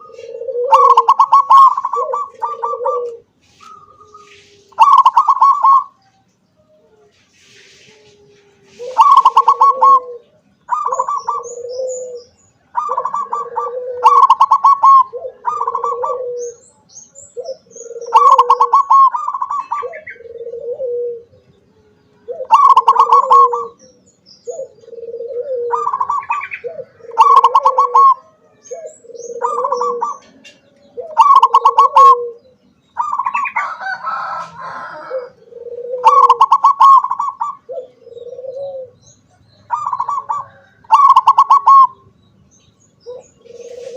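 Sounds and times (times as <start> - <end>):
dove cooing: 0.0 - 42.2, 43.0 - 43.9.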